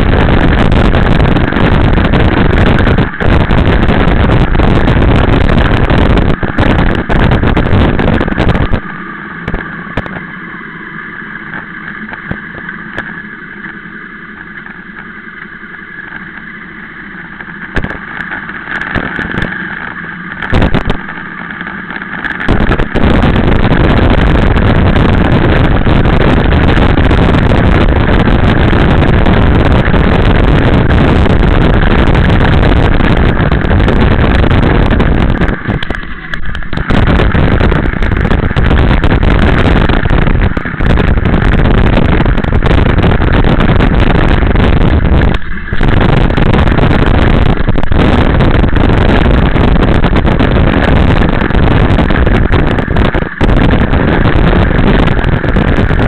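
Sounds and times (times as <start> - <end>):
motorcycle engine hum: 0.0 - 56.0
wind noise on microphone: 0.0 - 56.0.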